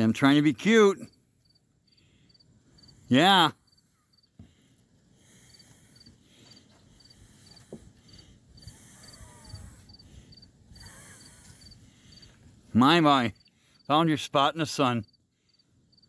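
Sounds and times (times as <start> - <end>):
cricket chirping: 0.6 - 4.4, 5.2 - 14.0, 14.8 - 16.0.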